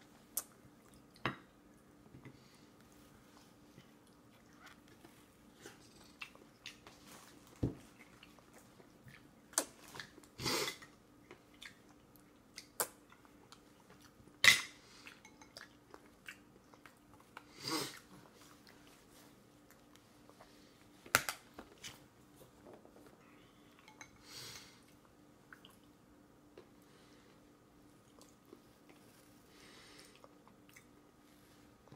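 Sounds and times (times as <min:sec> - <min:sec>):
quiet chewing: 0:00.2 - 0:14.3, 0:14.9 - 0:31.9.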